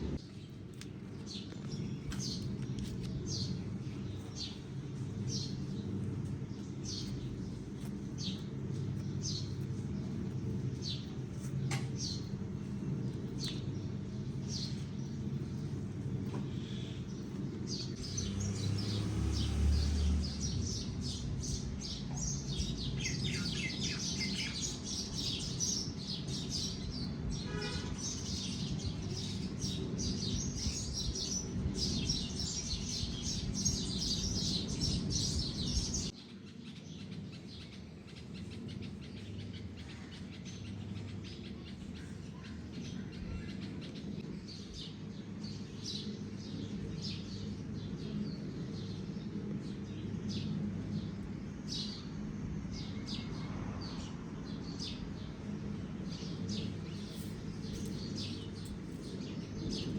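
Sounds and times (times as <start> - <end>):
steady low rumble: 0.0 - 27.4, 28.6 - 36.2, 37.1 - 59.9
small birds chirping: 0.0 - 59.9.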